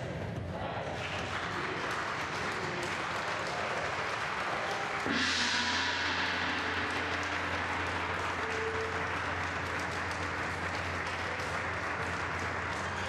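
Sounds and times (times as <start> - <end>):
group of people applauding: 0.8 - 13.0.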